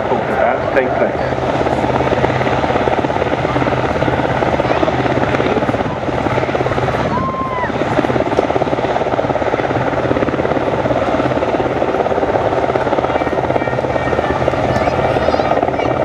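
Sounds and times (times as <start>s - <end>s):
helicopter hovering: 0.0s - 16.0s.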